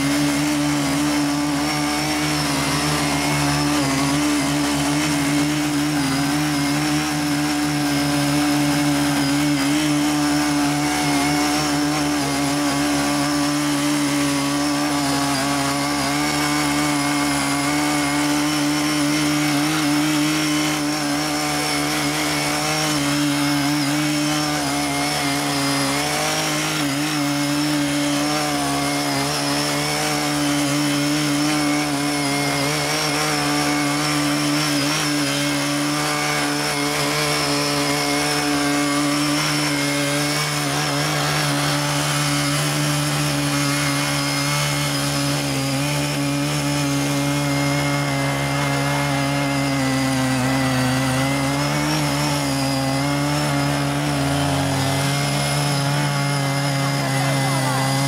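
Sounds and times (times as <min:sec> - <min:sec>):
rotary tines churning soil: 0:00.0 - 0:58.0
small tiller engines running: 0:00.0 - 0:58.0.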